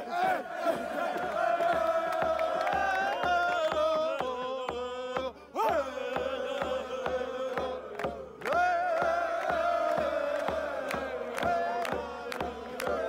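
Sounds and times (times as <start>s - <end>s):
crowd chanting: 0.0s - 13.0s
frame drum beaten steadily: 1.7s - 13.0s.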